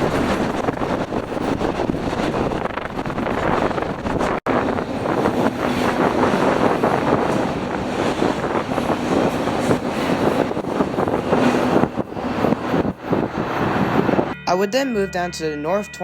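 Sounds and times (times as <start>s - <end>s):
train wheels rumbling on rails: 0.0s - 14.4s
wind buffeting microphone: 0.0s - 14.4s.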